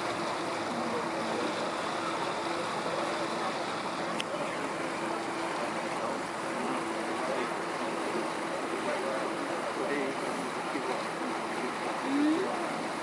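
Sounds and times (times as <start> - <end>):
low engine hum: 0.0 - 13.0
river water rushing along boat: 0.0 - 13.0.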